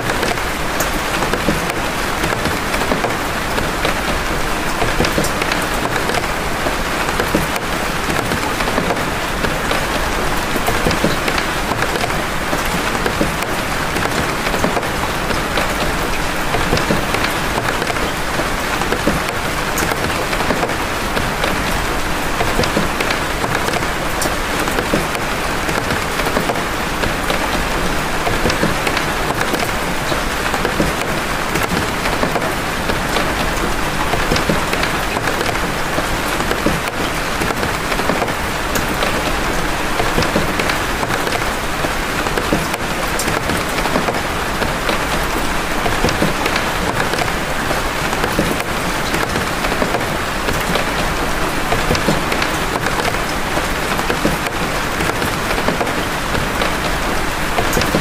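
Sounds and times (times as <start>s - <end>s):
raindrops clicking: 0.0s - 58.0s
steady rain: 0.0s - 58.0s.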